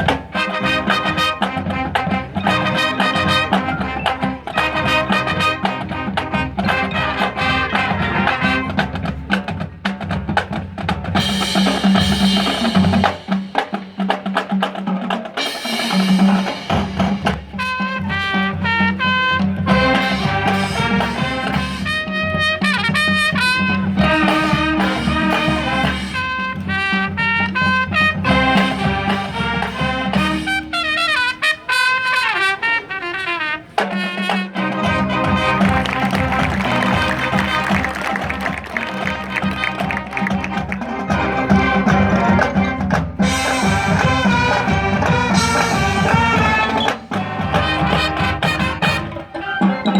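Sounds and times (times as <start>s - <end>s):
brass with trumpets: 0.0s - 14.7s, 15.3s - 49.9s
marching percussion: 0.0s - 49.9s.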